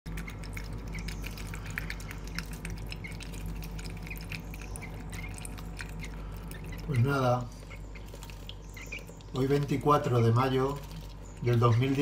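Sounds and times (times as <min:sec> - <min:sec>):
low hum: 0:00.1 - 0:12.0
small splashes and drips: 0:00.1 - 0:12.0.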